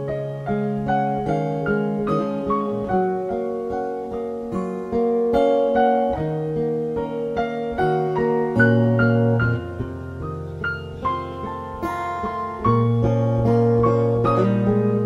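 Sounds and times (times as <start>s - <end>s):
piano jazz ballad: 0.0s - 15.0s.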